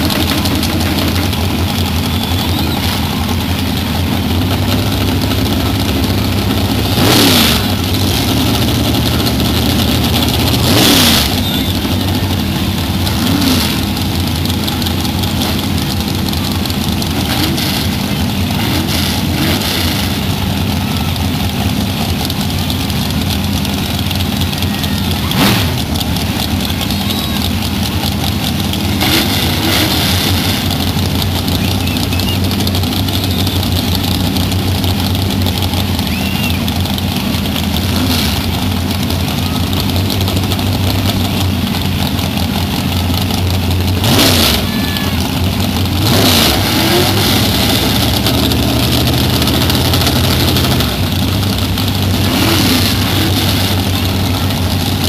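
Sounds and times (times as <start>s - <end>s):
car engine idling: 0.0s - 55.0s
engine throttle blips: 0.0s - 55.0s.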